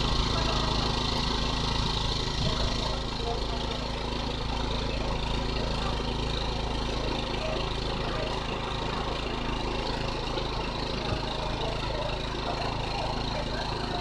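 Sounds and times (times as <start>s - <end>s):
generator engine running: 0.0s - 14.0s.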